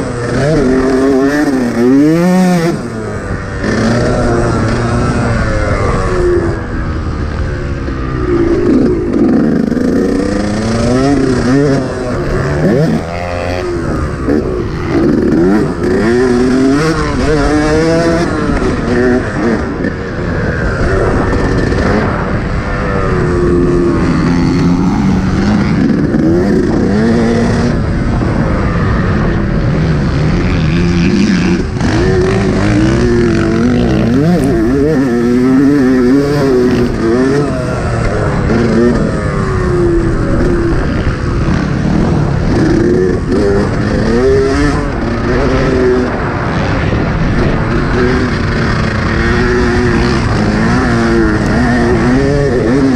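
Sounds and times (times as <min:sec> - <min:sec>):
motocross engine revving: 0:00.0 - 0:52.9
wind noise: 0:00.0 - 0:52.9.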